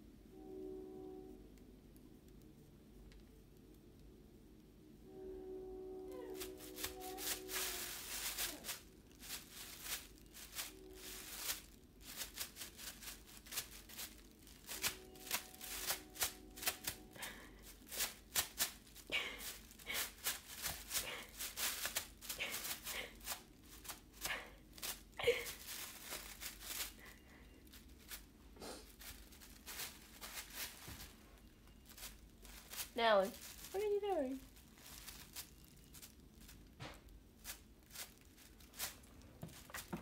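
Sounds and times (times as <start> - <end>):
plastic bag crinkling: 6.2 - 40.0.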